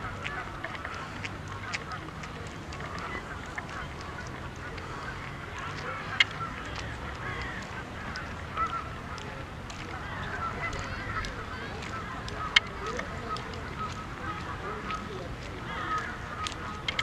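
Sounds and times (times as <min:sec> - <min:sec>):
waterfowl honking: 0:00.0 - 0:17.0.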